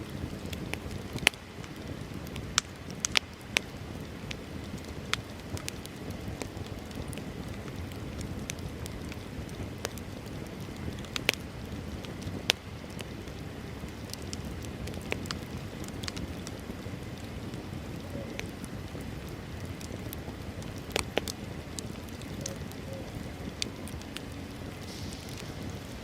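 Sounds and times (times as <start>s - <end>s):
bonfire crackling and popping: 0.0s - 26.0s.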